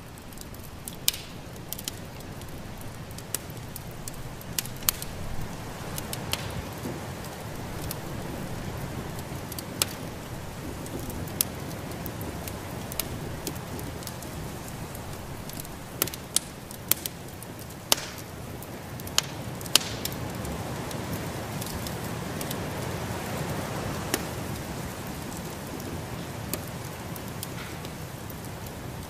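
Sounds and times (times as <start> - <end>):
steady hiss: 0.0 - 29.0
wood fire crackling: 0.0 - 29.0
sharp pops of fire: 0.1 - 22.8, 24.0 - 29.0.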